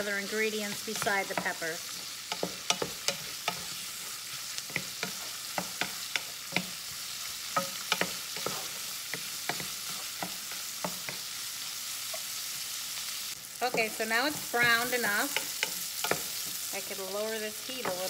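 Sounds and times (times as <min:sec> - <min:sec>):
spoon knocking and scraping pan: 0:00.0 - 0:12.6, 0:13.6 - 0:18.0
food sizzling in a pan: 0:00.0 - 0:18.0.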